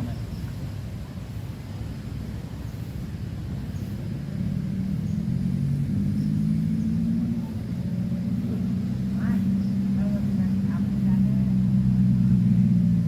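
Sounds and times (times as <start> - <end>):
engine running with low rumble: 0.0 - 13.0.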